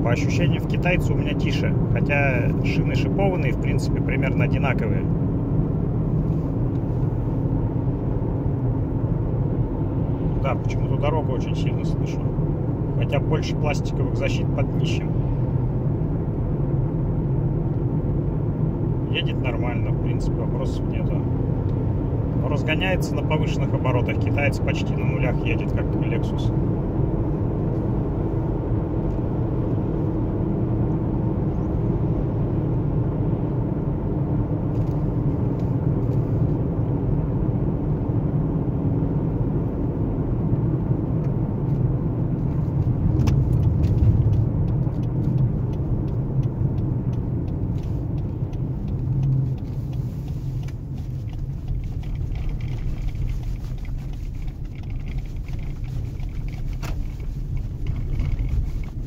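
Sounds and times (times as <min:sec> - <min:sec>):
road and tyre noise in car: 0:00.0 - 0:59.0.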